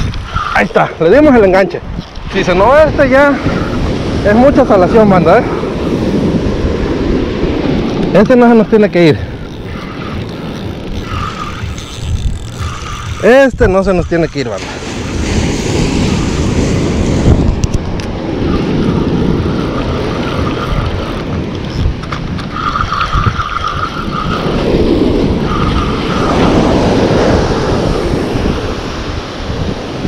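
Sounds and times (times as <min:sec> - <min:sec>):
fishing reel whirring: 0:00.0 - 0:00.8, 0:03.2 - 0:04.4, 0:05.1 - 0:15.2, 0:15.9 - 0:28.0
surf: 0:00.0 - 0:30.0
wind: 0:00.0 - 0:30.0.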